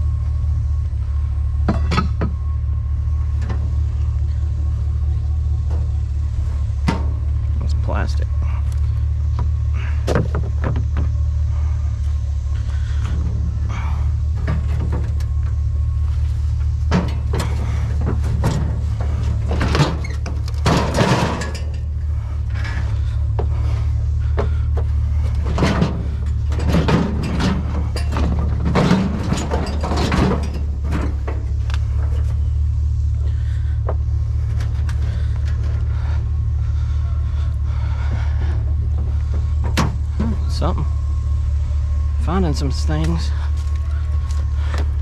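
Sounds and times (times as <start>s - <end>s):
truck rumbling: 0.0s - 45.0s
knocks and rattles: 5.1s - 45.0s.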